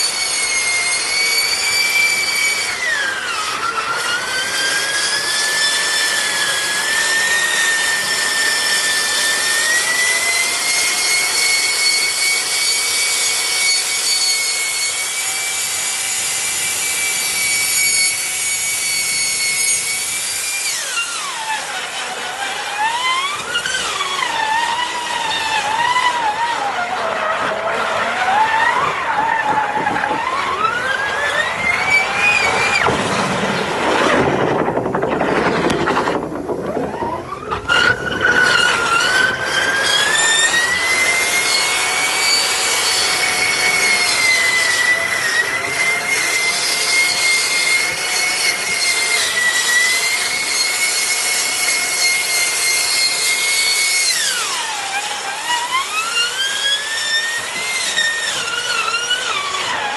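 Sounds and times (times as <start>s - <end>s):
motor whine: 0.0s - 59.9s.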